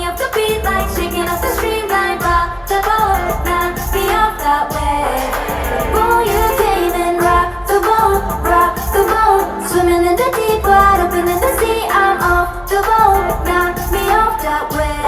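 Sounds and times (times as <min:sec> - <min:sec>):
backing track with pulsing bass: 0:00.0 - 0:15.0
women singing pop live: 0:00.0 - 0:15.0.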